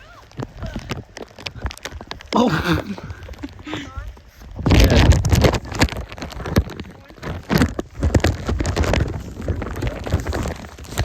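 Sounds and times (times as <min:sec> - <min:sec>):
rain hitting microphone: 0:00.0 - 0:11.0.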